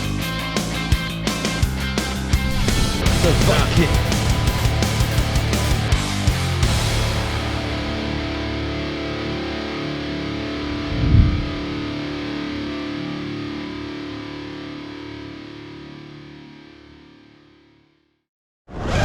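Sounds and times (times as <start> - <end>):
rock music with distorted guitar: 0.0 - 17.8.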